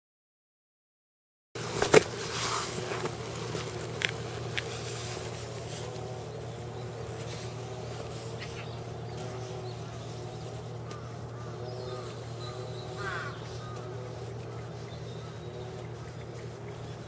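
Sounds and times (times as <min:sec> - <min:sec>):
motorcycle engine idling: 0:02.3 - 0:17.0.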